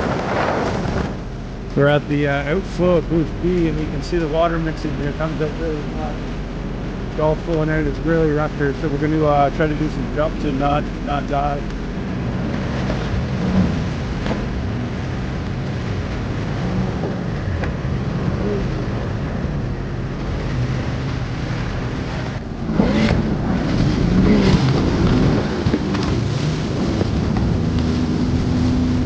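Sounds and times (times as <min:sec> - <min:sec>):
personal watercraft engine running: 0:00.0 - 0:29.0
rushing water: 0:00.0 - 0:29.0
wind on microphone: 0:00.0 - 0:29.0.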